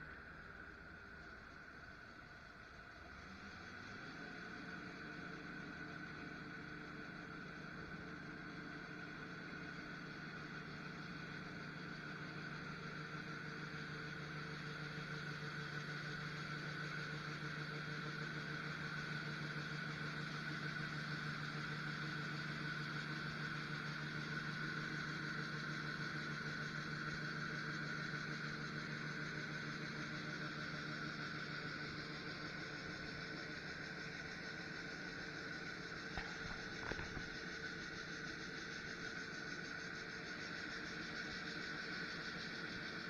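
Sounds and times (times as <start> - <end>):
farm machinery droning: 2.7 - 43.0.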